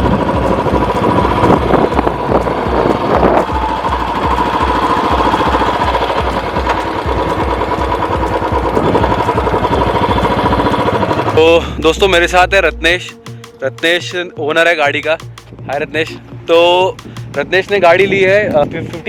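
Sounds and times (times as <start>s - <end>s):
motorcycle engine thumping: 0.0s - 12.0s, 14.4s - 19.0s.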